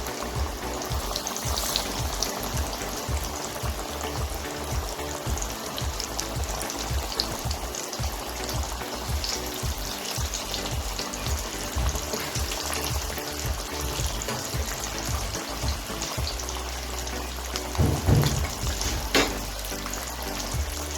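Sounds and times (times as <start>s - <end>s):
chicken deep-frying in oil: 0.0s - 20.9s.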